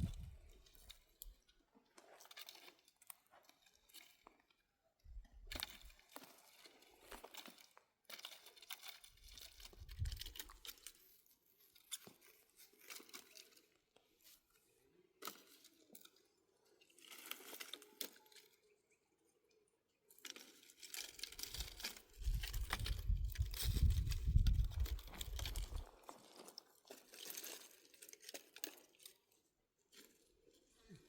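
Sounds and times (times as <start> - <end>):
dry twigs crunching and crackling: 0.0 - 4.5, 5.3 - 14.6, 15.2 - 18.8, 20.1 - 31.0.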